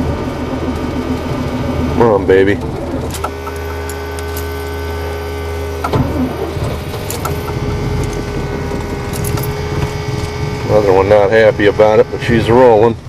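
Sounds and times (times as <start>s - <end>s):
engine running rough: 0.0s - 13.0s
starter cranking engine: 0.0s - 13.0s.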